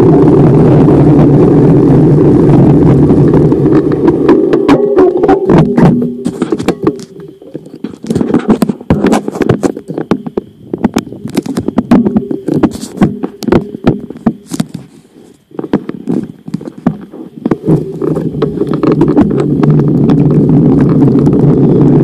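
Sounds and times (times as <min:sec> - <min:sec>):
tyres rumbling on asphalt: 0:00.0 - 0:22.0.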